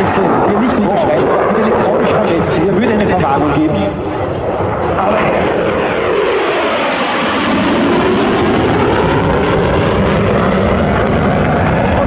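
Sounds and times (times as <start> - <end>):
fighter jet roar passing: 0.0 - 12.0.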